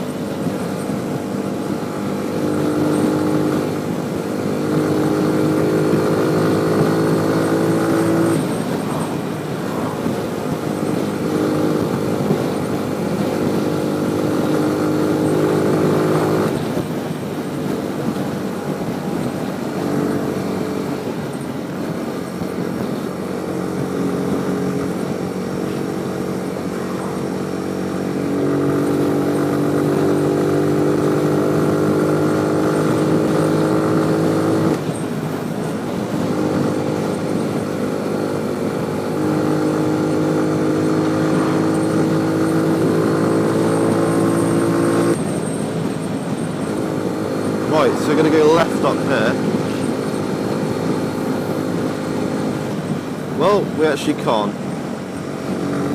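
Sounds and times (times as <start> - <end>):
motorcycle engine running: 0.0 - 55.9
road and wind noise: 0.0 - 55.9.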